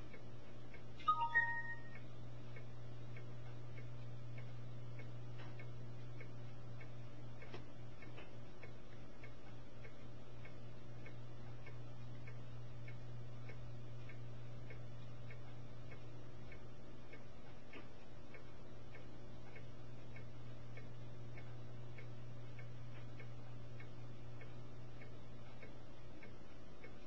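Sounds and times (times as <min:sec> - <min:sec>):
faint regular ticking: 0:00.0 - 0:27.0
steady low hum: 0:00.0 - 0:27.0.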